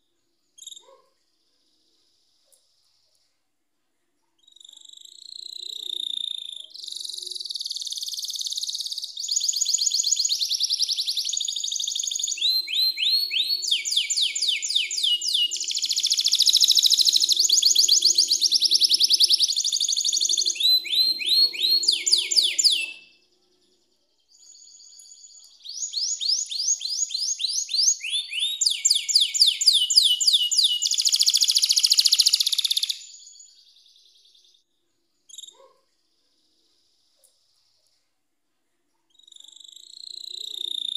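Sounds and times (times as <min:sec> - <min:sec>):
canary singing chirps and trills: 0:00.0 - 0:03.2, 0:04.2 - 0:37.9, 0:38.9 - 0:40.9.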